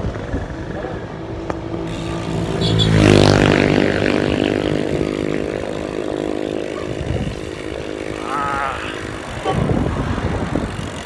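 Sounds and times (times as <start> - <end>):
vehicle engine accelerating: 0.5 - 11.0.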